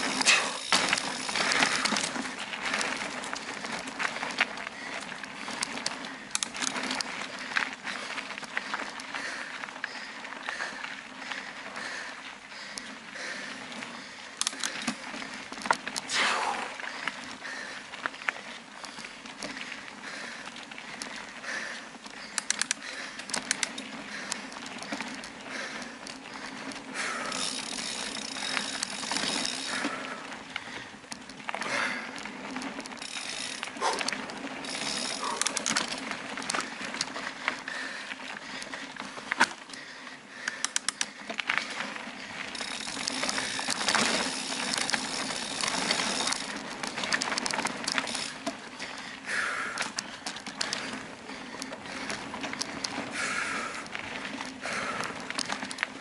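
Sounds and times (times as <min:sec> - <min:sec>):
freewheel ticking: 0:00.0 - 0:10.8, 0:18.7 - 0:38.7, 0:39.4 - 0:56.0
bicycle rattles and knocks: 0:00.0 - 0:56.0
bicycle tyre noise on dirt: 0:00.0 - 0:56.0.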